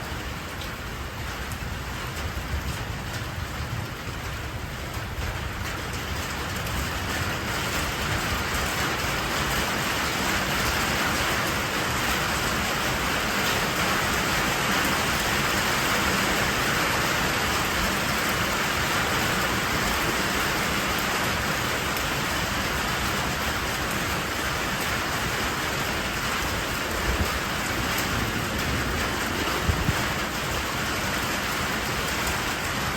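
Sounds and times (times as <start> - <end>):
rain on a metal roof: 0.0 - 32.9.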